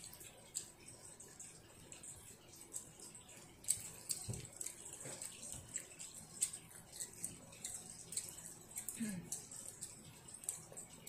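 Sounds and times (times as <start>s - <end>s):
child chewing with open mouth: 0.0s - 11.0s.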